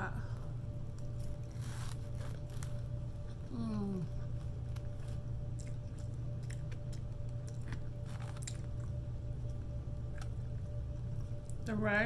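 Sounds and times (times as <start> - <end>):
low hum: 0.0 - 12.0
person chewing food: 0.9 - 11.7.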